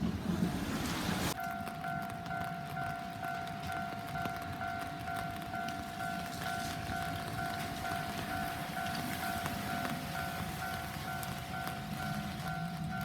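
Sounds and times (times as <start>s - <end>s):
level crossing alarm bell ringing: 1.4s - 13.0s.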